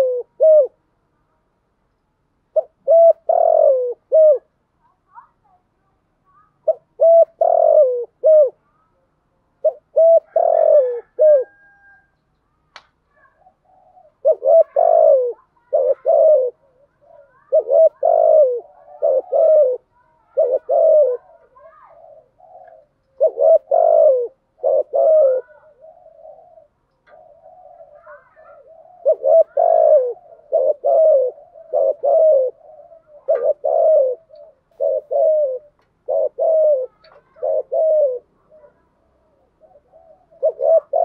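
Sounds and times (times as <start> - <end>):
dove cooing: 0.0 - 0.8, 2.5 - 4.5, 6.4 - 9.0, 9.6 - 12.2, 13.1 - 41.0.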